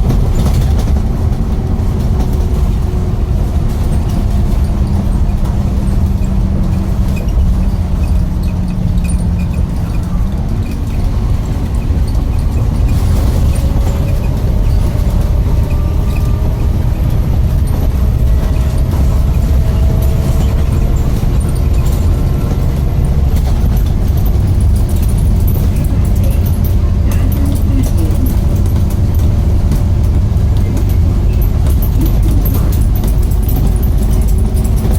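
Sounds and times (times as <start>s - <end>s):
bus engine rumbling: 0.0s - 34.9s
drivetrain whine: 0.0s - 34.9s.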